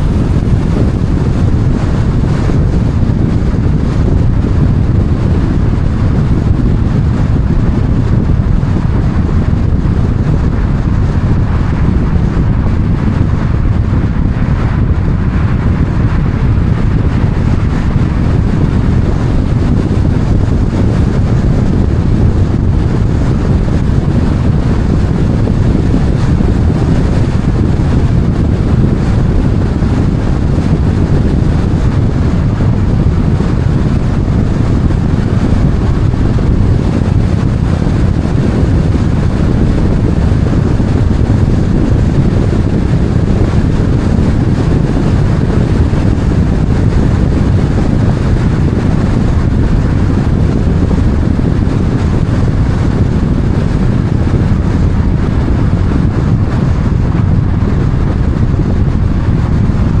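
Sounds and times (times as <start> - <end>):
vehicle rumble: 0.0 - 59.7
wind noise on microphone: 0.0 - 60.0.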